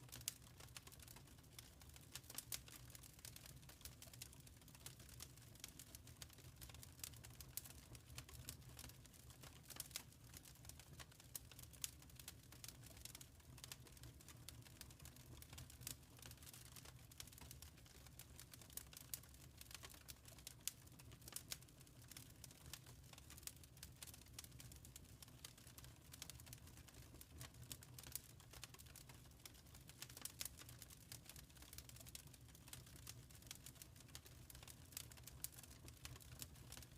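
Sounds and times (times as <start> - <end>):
wood fire crackling faintly: 0.0 - 36.9.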